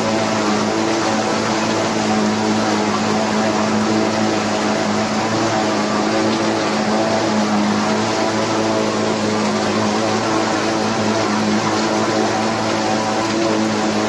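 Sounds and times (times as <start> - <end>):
forage harvester chopping crop: 0.0 - 14.0.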